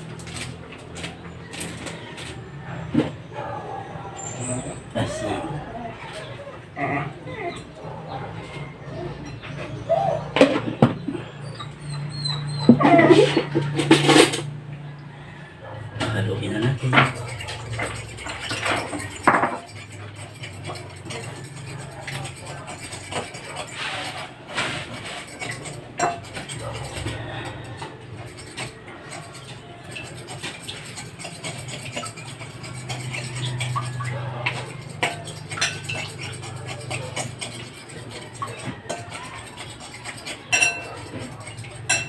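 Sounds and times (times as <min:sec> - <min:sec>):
utensil scraping a bowl: 0:04.2 - 0:42.0.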